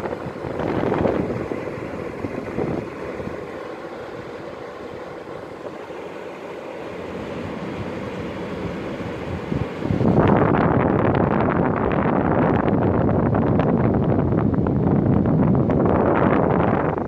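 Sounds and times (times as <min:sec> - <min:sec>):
air conditioner fan rushing: 0:00.0 - 0:17.0.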